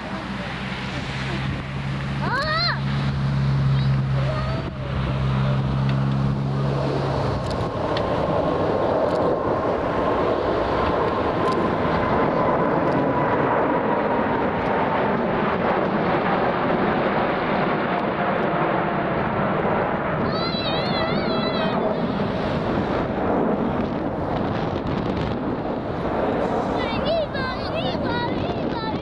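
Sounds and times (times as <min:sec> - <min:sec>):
low hum: 0:00.0 - 0:28.1
jet engine roar with whine: 0:00.0 - 0:29.0.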